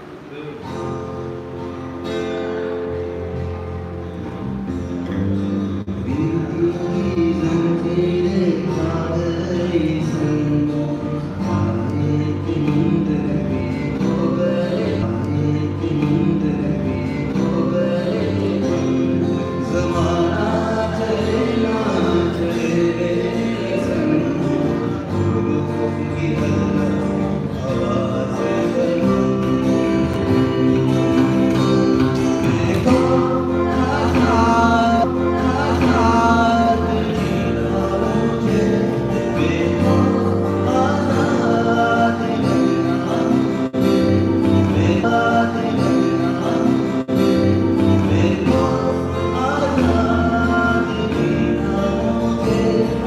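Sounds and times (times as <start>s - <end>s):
acoustic guitar strumming: 0.0s - 53.0s
man singing into a microphone: 5.9s - 53.0s.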